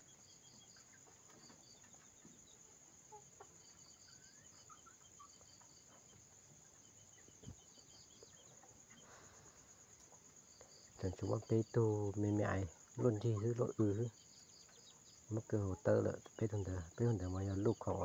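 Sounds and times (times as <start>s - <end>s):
chickens clucking: 0.0s - 18.0s
night insect chorus: 0.0s - 18.0s.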